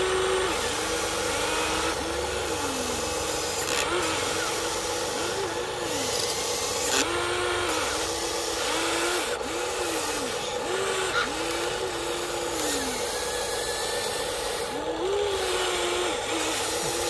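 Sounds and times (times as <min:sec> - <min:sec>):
electric motors whining: 0:00.0 - 0:17.0
steady hum: 0:00.0 - 0:17.0.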